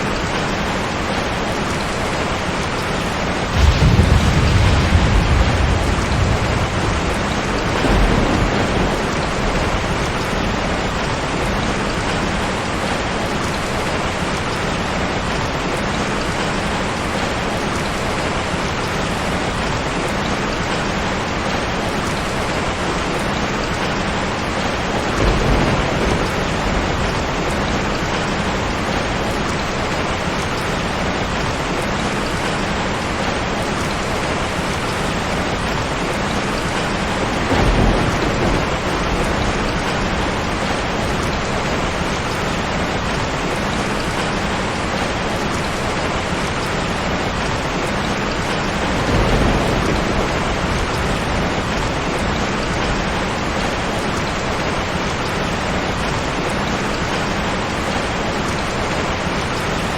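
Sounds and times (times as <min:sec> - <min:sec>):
heavy rain falling: 0:00.0 - 0:59.9
thunder rumbles: 0:00.2 - 0:15.2, 0:21.0 - 0:57.2.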